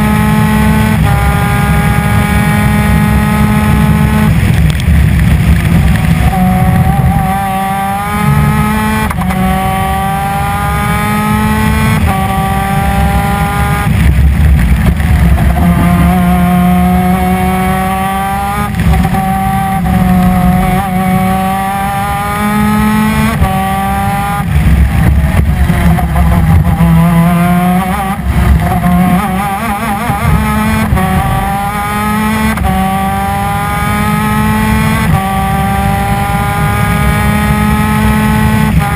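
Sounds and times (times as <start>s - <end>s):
two-stroke kart engine racing: 0.0s - 38.9s.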